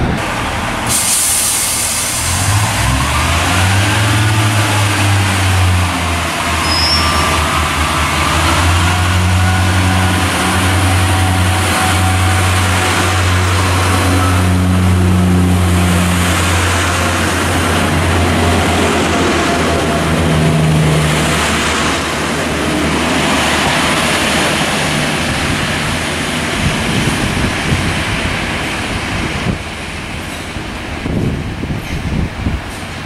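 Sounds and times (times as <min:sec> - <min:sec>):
diesel train engine droning: 0:00.0 - 0:33.0
train wheels on rails: 0:00.0 - 0:33.0.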